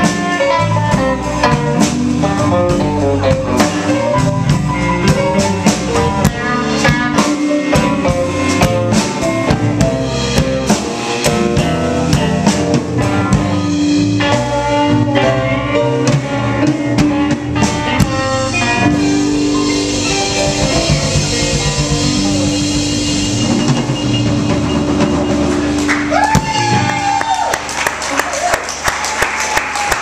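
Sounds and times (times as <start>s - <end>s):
blues guitar: 0.0s - 28.2s
drum kit beat: 0.0s - 28.8s.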